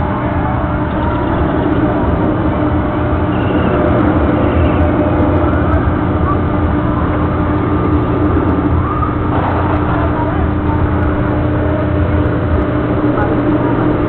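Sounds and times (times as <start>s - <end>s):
amusement ride mechanical drone: 0.0s - 14.0s.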